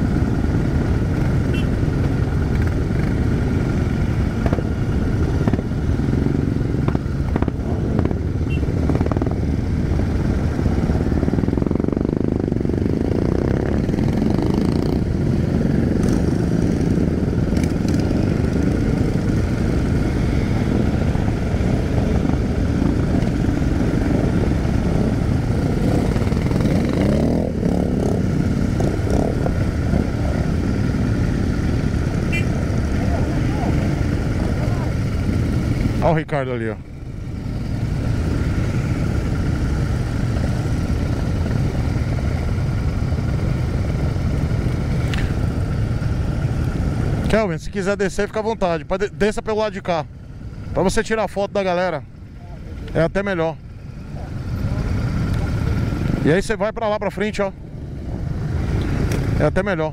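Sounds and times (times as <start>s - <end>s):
motorcycles running together: 0.0s - 59.9s.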